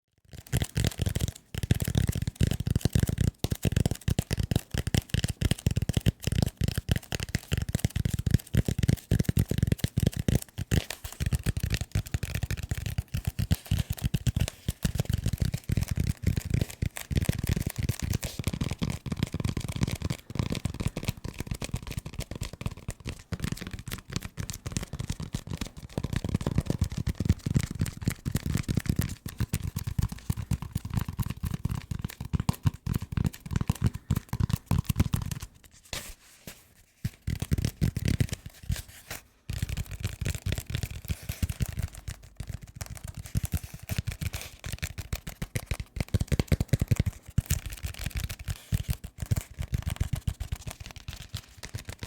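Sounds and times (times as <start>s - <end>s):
fast tapping on desk objects: 0.5s - 35.5s, 39.5s - 52.0s.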